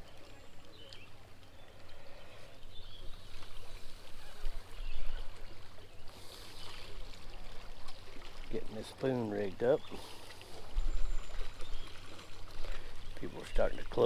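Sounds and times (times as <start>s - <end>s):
waves lapping on rocks: 0.0s - 14.0s.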